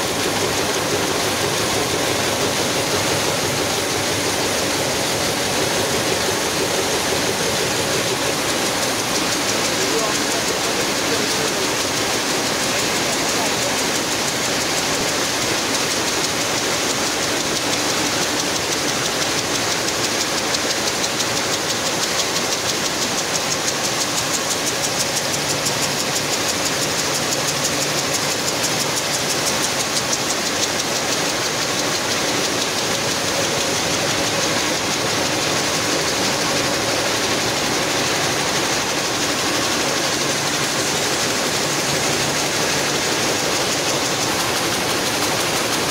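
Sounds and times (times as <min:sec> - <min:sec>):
weaving looms clattering: 0:00.0 - 0:45.9.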